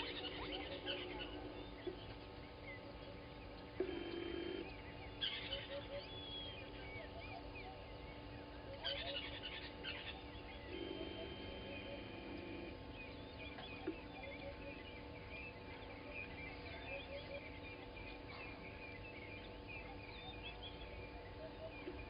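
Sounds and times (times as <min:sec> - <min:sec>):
birds chirping and calling: 0:00.0 - 0:22.0
faint steady hum: 0:00.0 - 0:22.0
low repeated bird calls: 0:00.0 - 0:22.0.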